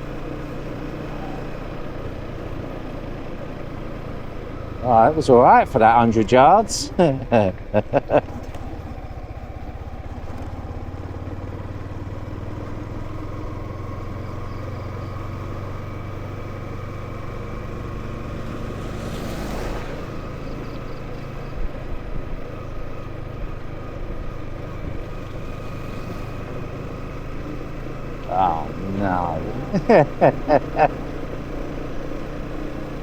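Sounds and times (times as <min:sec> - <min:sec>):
motorcycle engine running: 0:00.0 - 0:33.0
wind and road noise: 0:00.0 - 0:33.0.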